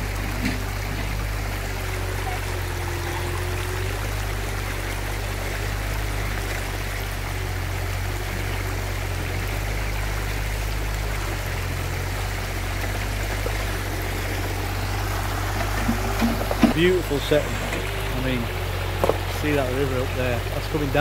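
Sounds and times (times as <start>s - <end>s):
low rumble: 0.0s - 21.0s
river rushing over stones: 0.0s - 21.0s.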